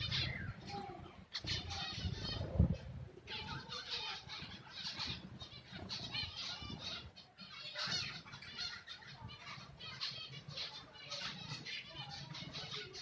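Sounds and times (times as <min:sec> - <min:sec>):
parrots squawking and chattering: 0:00.0 - 0:13.0.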